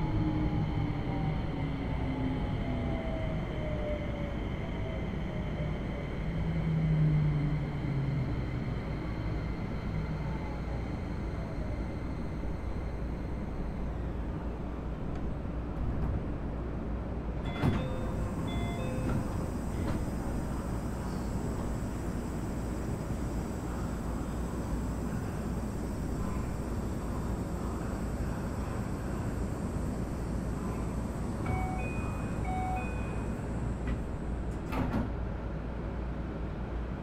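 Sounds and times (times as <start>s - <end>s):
train wheel and track noise: 0.0s - 37.0s.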